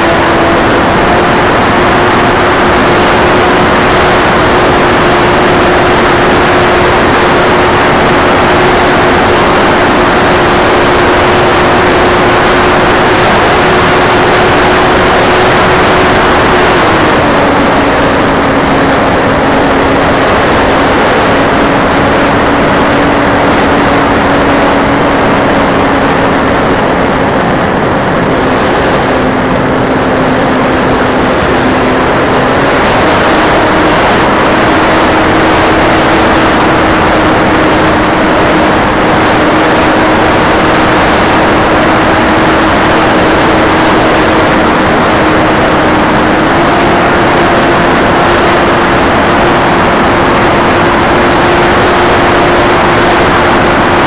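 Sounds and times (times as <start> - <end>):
electric motor and propeller: 0.0 - 54.0.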